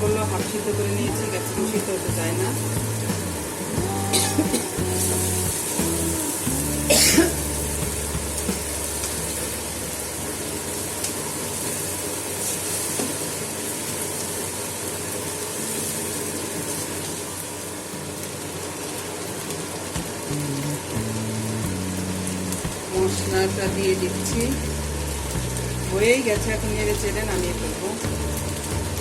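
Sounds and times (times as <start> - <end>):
stir-fry sizzling in a pan: 0.0 - 29.0.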